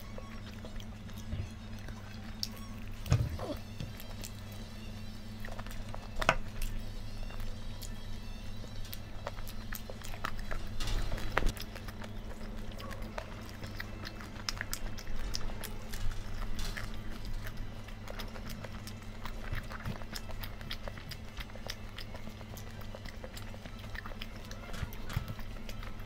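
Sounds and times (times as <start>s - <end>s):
person chewing: 0.0s - 26.0s
steady low hum: 0.0s - 26.0s.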